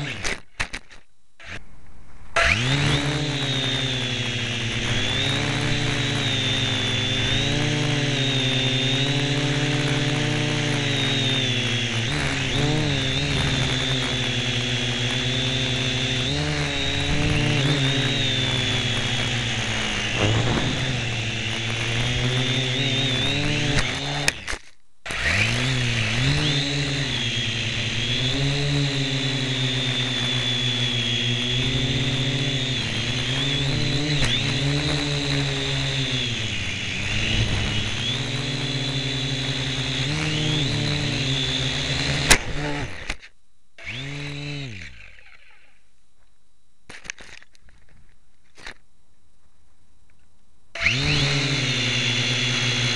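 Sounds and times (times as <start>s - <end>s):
quadcopter motors whining: 0.0s - 1.6s, 2.4s - 45.8s, 50.8s - 52.9s.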